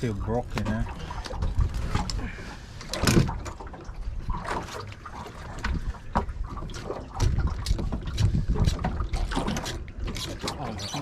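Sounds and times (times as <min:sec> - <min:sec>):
wind buffeting microphone: 0:00.0 - 0:04.6, 0:05.3 - 0:11.0.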